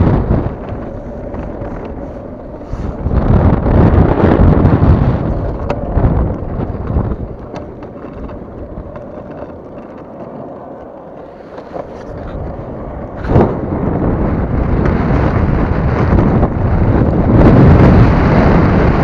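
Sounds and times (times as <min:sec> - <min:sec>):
longboard wheels rolling on asphalt: 0:00.0 - 0:19.0
wind buffeting microphone: 0:00.0 - 0:19.0.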